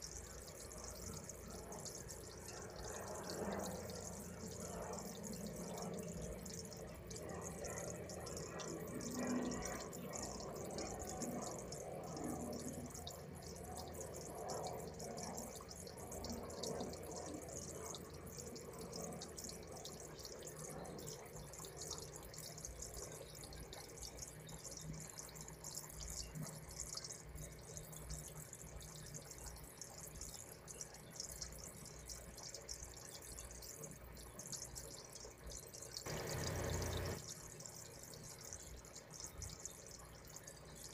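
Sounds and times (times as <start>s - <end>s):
aquarium air stones bubbling: 0.0s - 40.9s
low steady hum: 0.0s - 40.9s.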